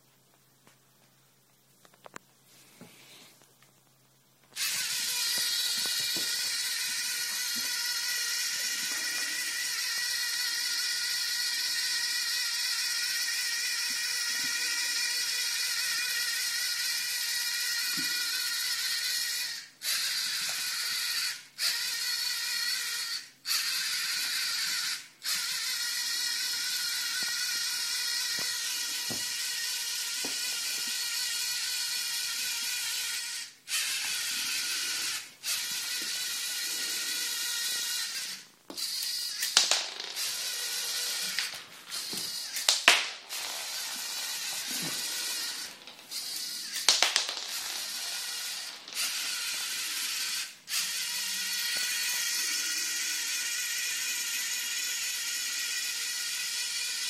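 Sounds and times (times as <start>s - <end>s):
servo motors whining: 4.6s - 39.6s, 40.2s - 42.7s, 43.3s - 46.9s, 47.5s - 57.0s.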